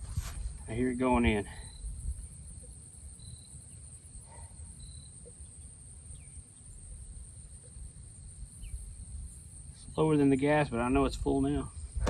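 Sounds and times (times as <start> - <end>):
insects chirping in a pulsing trill: 0.0 - 12.0.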